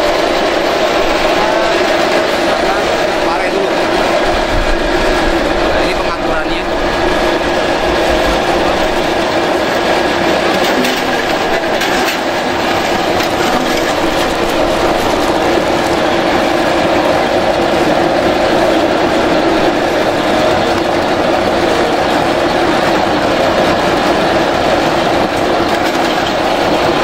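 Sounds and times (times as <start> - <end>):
vegetable chopper rattling and whirring: 0.0 - 27.0.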